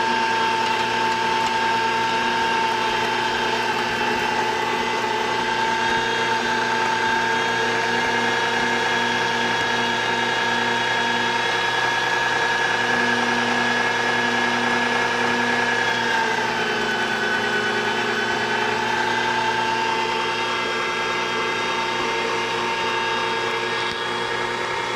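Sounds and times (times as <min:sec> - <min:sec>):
meat grinder motor whining: 0:00.0 - 0:24.9.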